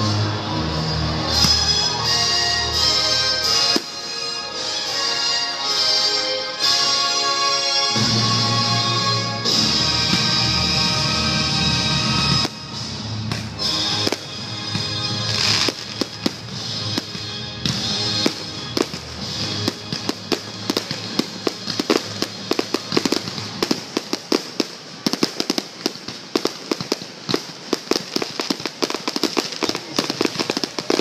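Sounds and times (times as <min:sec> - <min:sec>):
fireworks bangs and crackles: 0:00.0 - 0:04.1, 0:08.0 - 0:31.0
music: 0:00.0 - 0:31.0.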